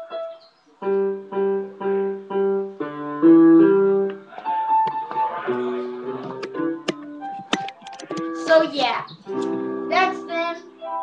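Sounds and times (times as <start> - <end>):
keyboard playing chords: 0.0 - 11.0.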